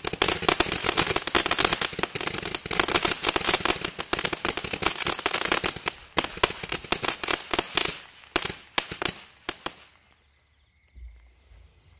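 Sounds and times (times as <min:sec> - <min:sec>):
firework crackling pops: 0:00.0 - 0:10.2.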